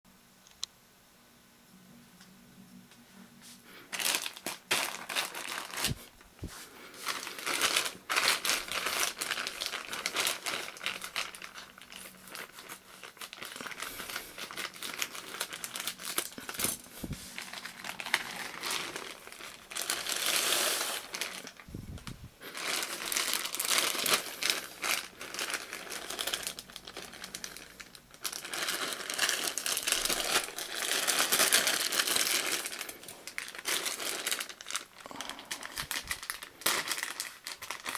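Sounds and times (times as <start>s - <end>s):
plastic bag crinkling: 3.8s - 37.9s.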